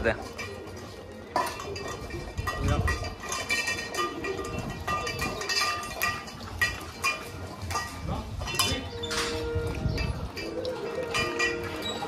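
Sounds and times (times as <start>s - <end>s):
steel bowls clinking on tiled floor: 0.0s - 12.0s.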